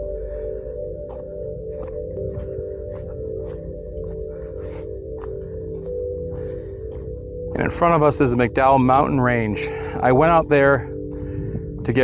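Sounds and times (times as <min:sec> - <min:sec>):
ambient singing bowl tones: 0:00.0 - 0:12.0.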